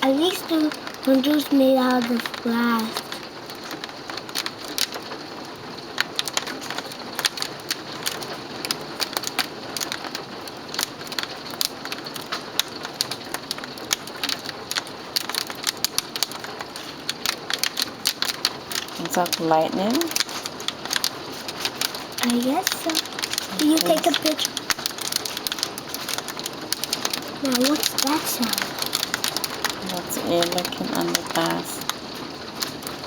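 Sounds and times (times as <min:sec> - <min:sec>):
hailstones striking hard surfaces: 0:00.0 - 0:33.0.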